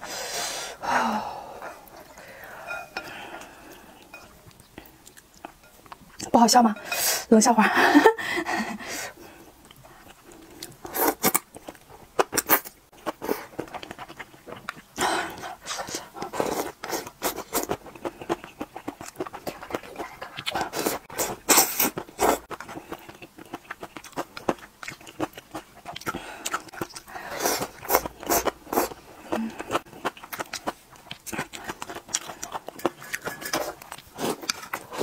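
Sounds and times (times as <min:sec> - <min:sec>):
wet chewing: 0:01.8 - 0:06.4, 0:09.6 - 0:35.0.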